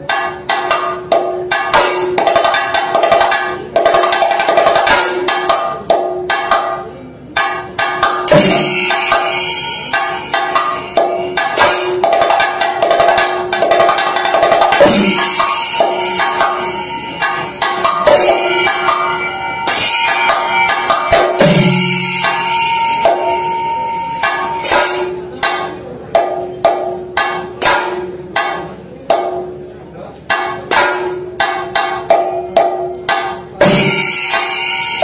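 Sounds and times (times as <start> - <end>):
drums beaten with sticks: 0.0 - 35.0.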